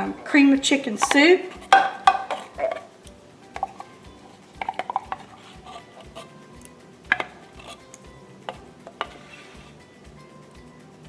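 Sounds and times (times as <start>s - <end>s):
utensil clinking against can: 0.0s - 11.0s.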